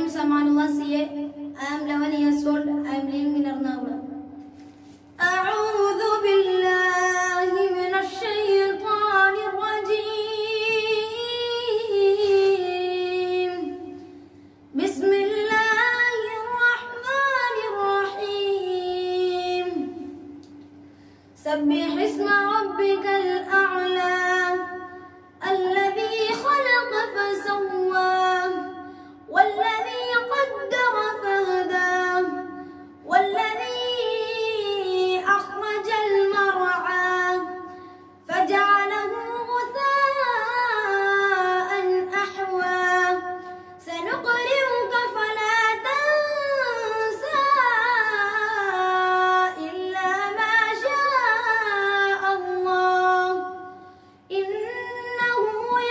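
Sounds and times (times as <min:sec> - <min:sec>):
boy chanting melodically: 0:00.0 - 0:04.4, 0:05.2 - 0:20.4, 0:21.4 - 0:55.9.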